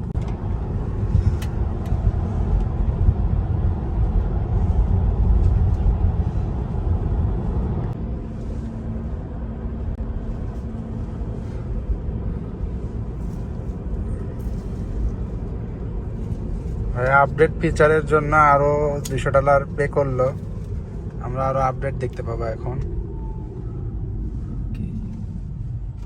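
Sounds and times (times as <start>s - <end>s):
tyre and wind noise in car: 0.0s - 26.0s.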